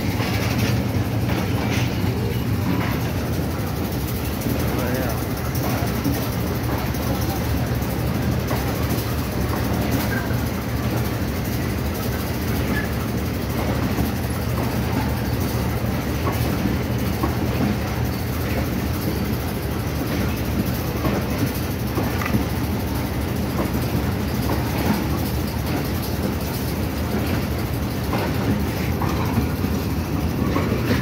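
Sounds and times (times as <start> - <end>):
train wheels rumbling on track: 0.0 - 31.0
wheel clicks on track: 0.0 - 31.0.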